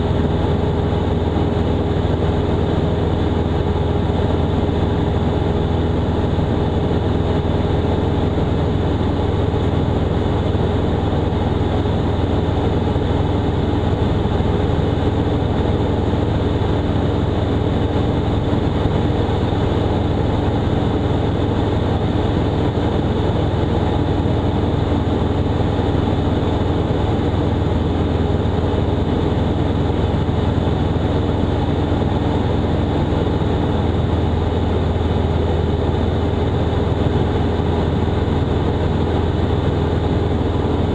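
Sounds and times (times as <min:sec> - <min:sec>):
aircraft engine droning: 0:00.0 - 0:40.9.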